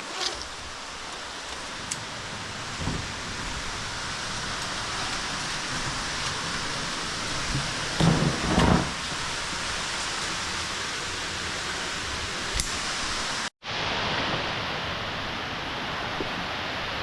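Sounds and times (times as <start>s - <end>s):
waterfall rushing in a cave: 0.0s - 17.0s.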